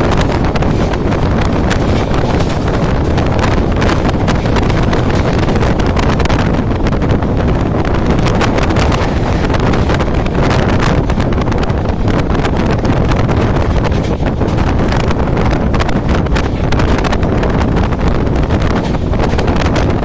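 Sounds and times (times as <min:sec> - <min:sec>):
train rumble: 0:00.0 - 0:20.0
wheels clicking and rattling on track: 0:00.0 - 0:20.0
wind buffeting microphone: 0:00.0 - 0:20.0.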